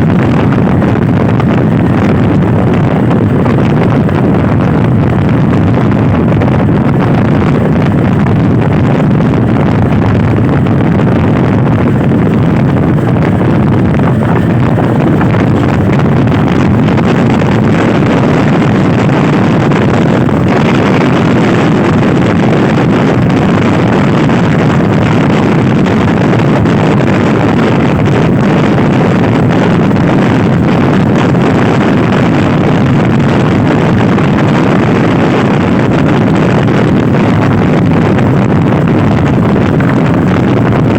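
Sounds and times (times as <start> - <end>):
wind rush on microphone: 0.0 - 40.9.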